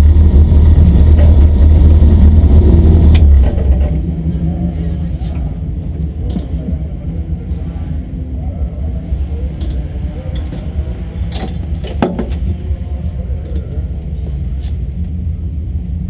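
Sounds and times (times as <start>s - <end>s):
race car engine idling: 0.0s - 16.0s.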